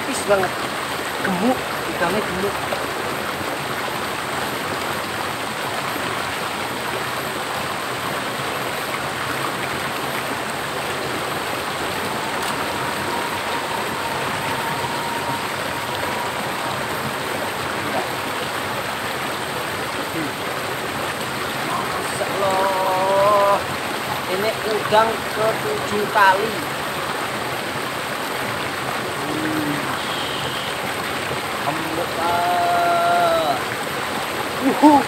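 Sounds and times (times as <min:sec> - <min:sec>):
water cascading into rocky pool: 0:00.0 - 0:35.0.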